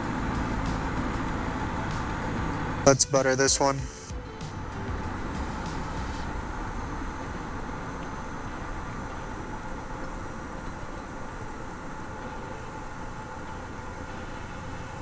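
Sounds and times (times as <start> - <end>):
aircraft engine idling: 0.0 - 15.0
faint hum: 0.0 - 15.0.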